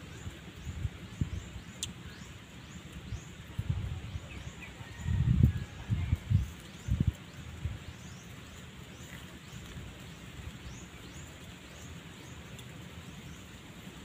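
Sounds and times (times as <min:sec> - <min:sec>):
birds chirping: 0:00.0 - 0:14.0
wind rumbling on microphone: 0:00.0 - 0:14.0.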